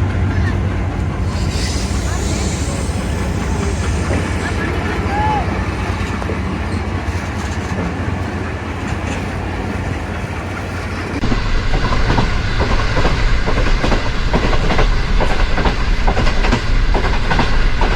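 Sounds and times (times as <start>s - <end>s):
train wheels clicking over rail joints: 0.0s - 17.9s.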